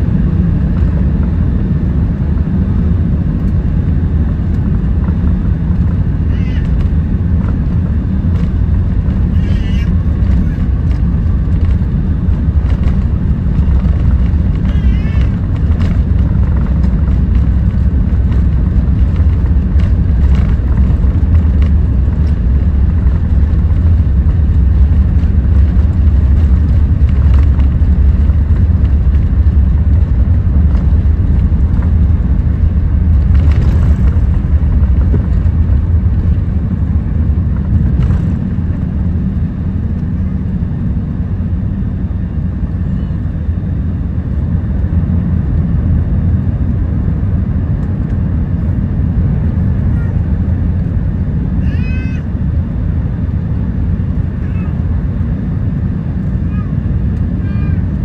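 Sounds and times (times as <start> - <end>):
jet engines at takeoff thrust: 0.0 - 58.0
landing gear rumbling on runway: 0.0 - 58.0.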